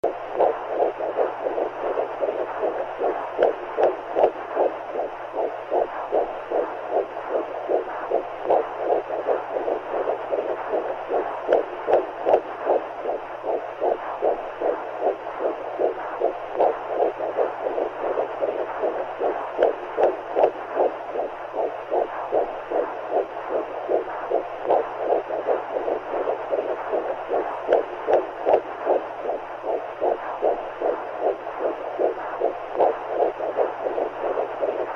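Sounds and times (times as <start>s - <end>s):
faint low hum: 0.0s - 34.9s
rapid heartbeat: 0.0s - 34.9s.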